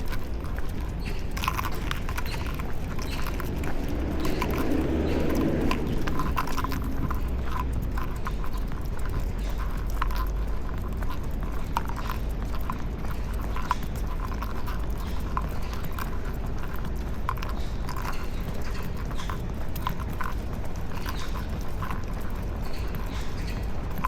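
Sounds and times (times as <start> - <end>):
dog claws clicking on pavement: 0.0 - 24.0
steady low rumble: 0.0 - 24.0.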